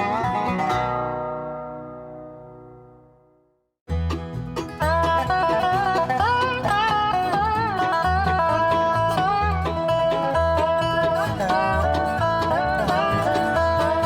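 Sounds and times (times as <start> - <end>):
string band music: 0.0 - 1.7, 3.9 - 14.0.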